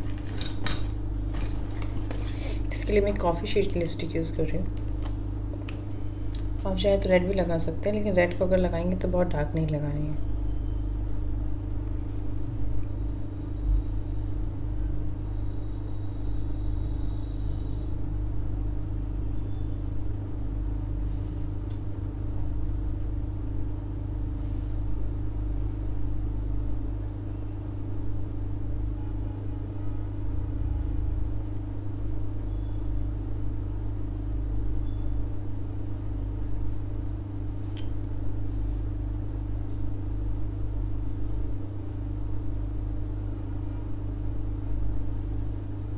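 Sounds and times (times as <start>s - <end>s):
machine humming and rumbling: 0.0s - 45.9s.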